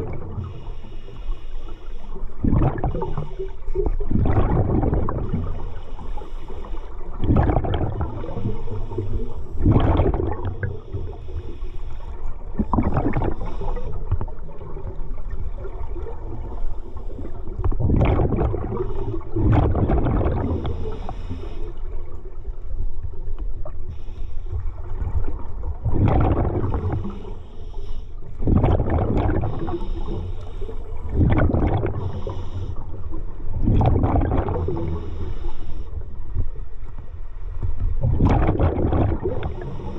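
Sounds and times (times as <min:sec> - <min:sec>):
underwater rushing bubbling water: 0:00.0 - 0:00.9, 0:01.8 - 0:23.9, 0:24.5 - 0:39.9.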